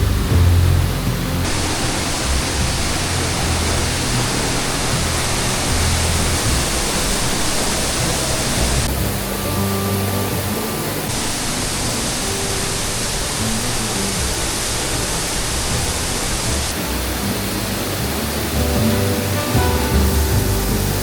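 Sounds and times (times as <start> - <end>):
background music: 0.0 - 21.0
waterfall rushing: 0.0 - 21.0.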